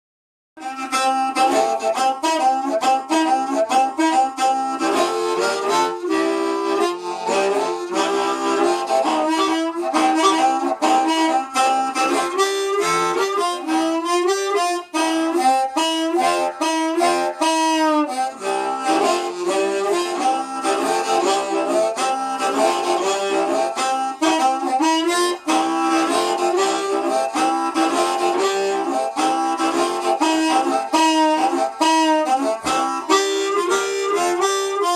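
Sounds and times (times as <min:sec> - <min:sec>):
solo harmonica: 0:00.6 - 0:34.9.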